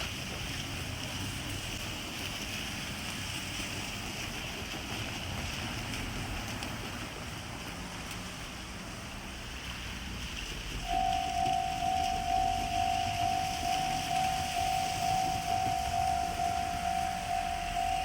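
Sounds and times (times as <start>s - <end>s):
diesel railcar engine rumble: 0.0s - 18.0s.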